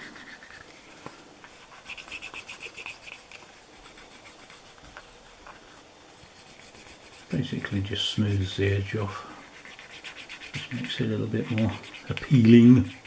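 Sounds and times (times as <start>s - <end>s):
wooden burnisher rubbing leather: 0.0s - 13.0s.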